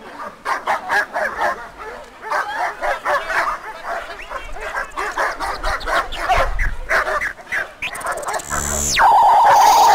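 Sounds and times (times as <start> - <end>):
dog barking and yelping: 0.4 - 9.9.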